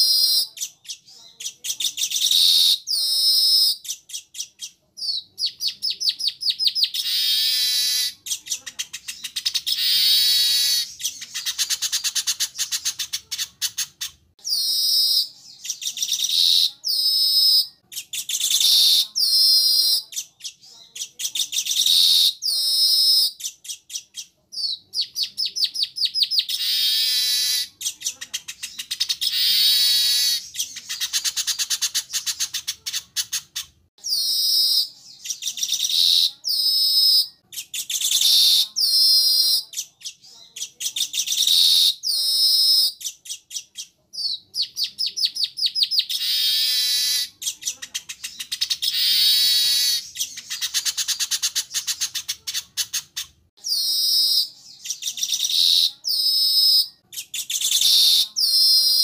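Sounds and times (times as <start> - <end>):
weaver birds chattering: 0.0 - 59.0.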